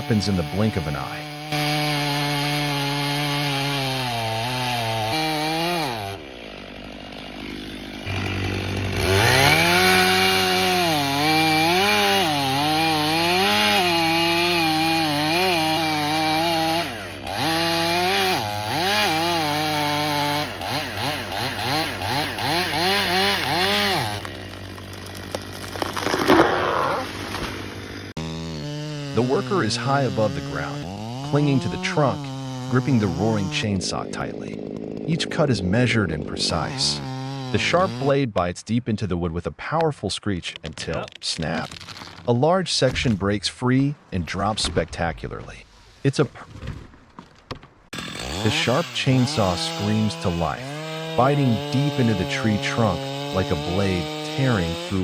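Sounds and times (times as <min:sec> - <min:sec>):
chainsaw cutting wood: 0:00.0 - 0:38.2, 0:40.8 - 0:42.3, 0:47.2 - 0:55.0.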